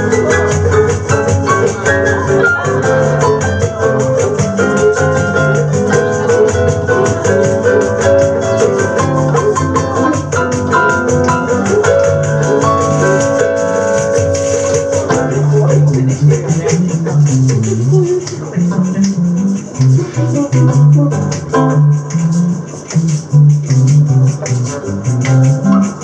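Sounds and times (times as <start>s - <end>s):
keyboard chords: 0.0s - 24.4s
bass line: 0.0s - 26.0s
guitar chords: 0.0s - 26.0s
shaker rapid pulse: 0.0s - 26.0s.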